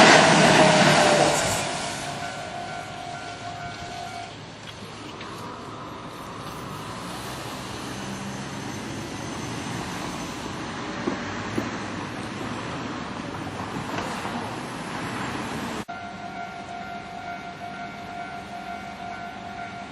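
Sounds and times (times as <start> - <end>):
electric train rumbling past: 0.0 - 19.9.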